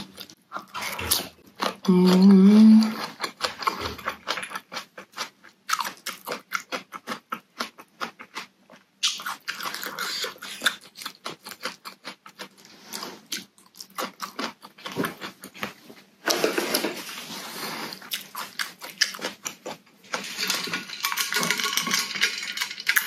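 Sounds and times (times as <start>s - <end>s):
crisp chewing crunches: 0.0s - 23.0s.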